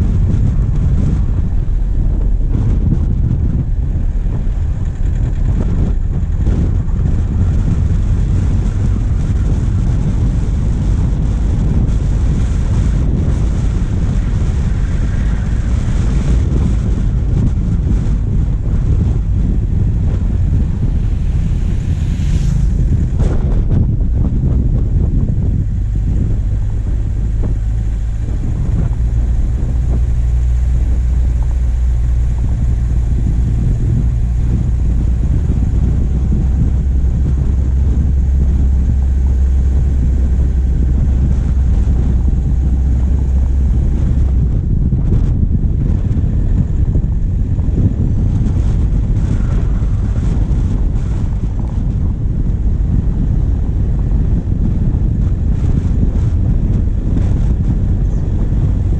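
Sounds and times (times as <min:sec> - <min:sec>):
diesel engine droning: 0:00.0 - 0:58.9
wind buffeting microphone: 0:00.0 - 0:58.9.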